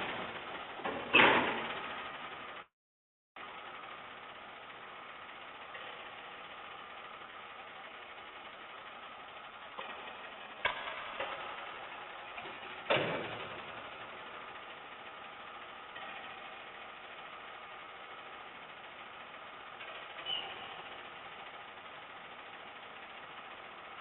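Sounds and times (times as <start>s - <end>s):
garbage truck engine idling: 0.0s - 2.7s, 3.4s - 24.0s.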